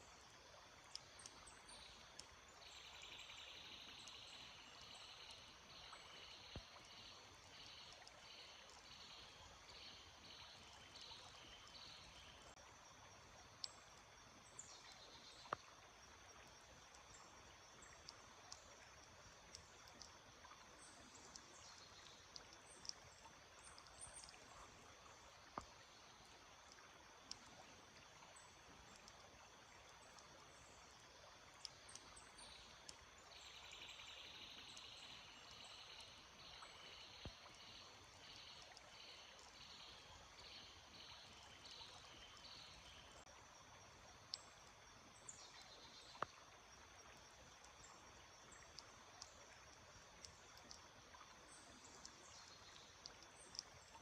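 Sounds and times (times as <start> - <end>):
stream running water: 0.0 - 54.0.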